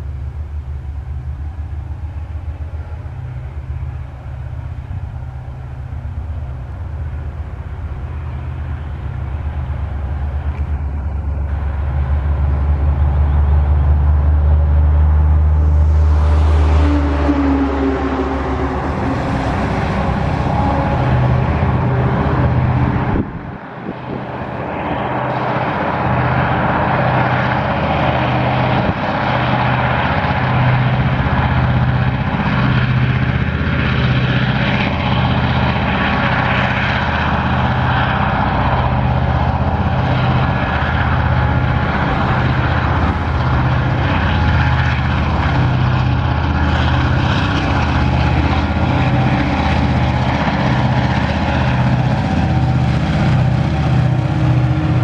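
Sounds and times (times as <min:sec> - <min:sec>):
diesel locomotives throbbing: 0:00.0 - 0:55.0.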